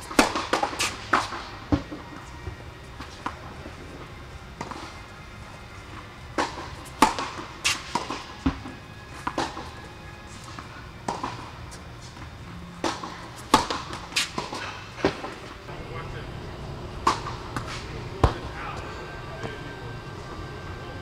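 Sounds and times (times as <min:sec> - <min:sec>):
tennis balls bouncing and hit: 0:00.0 - 0:21.0.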